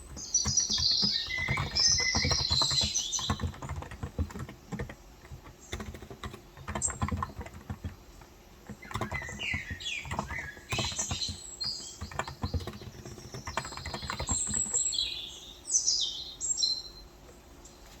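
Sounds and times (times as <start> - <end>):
soft keyboard clacks: 0.0 - 15.1
small birds chirping: 0.0 - 18.0.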